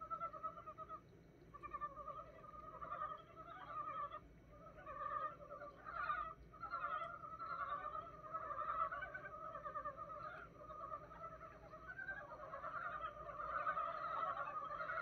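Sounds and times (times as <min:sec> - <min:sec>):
frogs croaking in chorus: 0:00.0 - 0:15.0.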